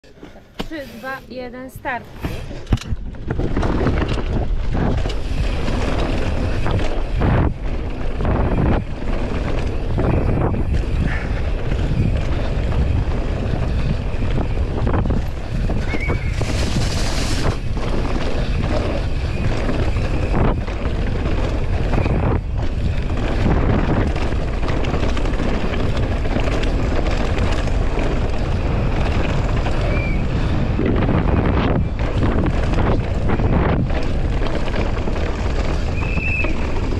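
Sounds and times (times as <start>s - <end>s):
bike tyres rolling on dirt: 0.1s - 36.9s
wind buffeting microphone: 0.7s - 36.9s
bike knocks and rattles: 2.2s - 36.9s.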